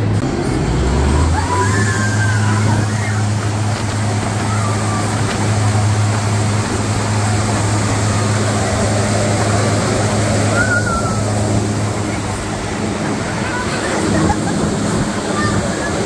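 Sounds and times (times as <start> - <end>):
loud machine hum: 0.0 - 16.0
rushing noise: 0.0 - 16.0.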